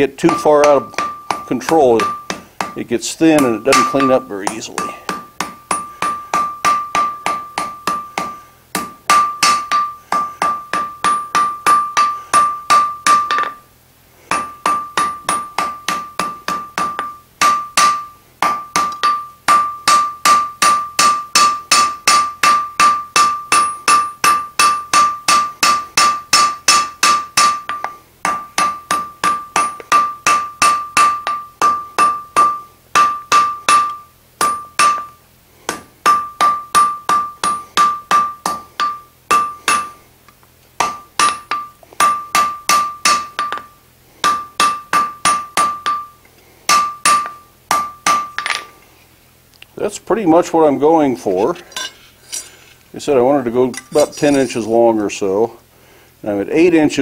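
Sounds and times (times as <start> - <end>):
hammer ringing on anvil: 0.0 - 13.6, 14.3 - 40.0, 40.8 - 48.7.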